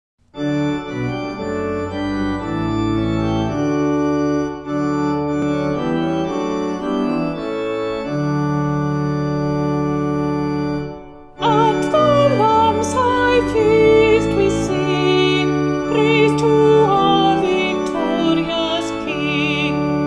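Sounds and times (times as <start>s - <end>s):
organ playing sustained chords: 0.3s - 20.0s.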